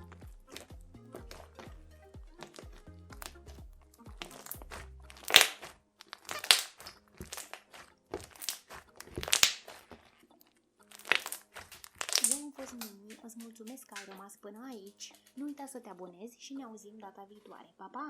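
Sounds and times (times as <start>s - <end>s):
crunchy slime crackling: 0.0s - 10.3s, 10.9s - 15.6s
background music: 0.0s - 18.0s.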